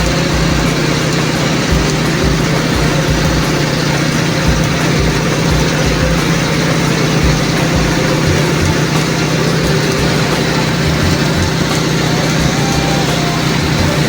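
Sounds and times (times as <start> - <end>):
welding equipment humming and hissing: 0.0 - 14.0.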